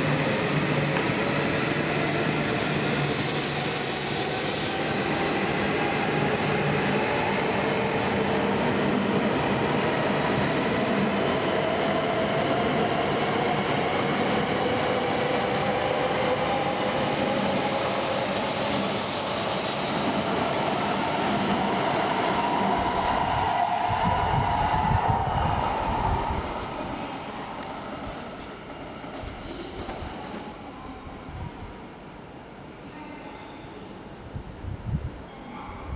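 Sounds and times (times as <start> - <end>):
train passing: 0.0 - 32.9.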